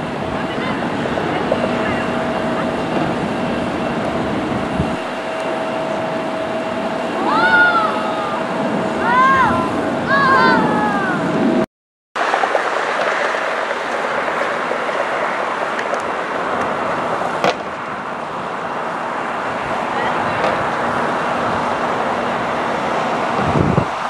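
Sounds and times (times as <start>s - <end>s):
jet airliner engine rushing: 0.0s - 24.0s.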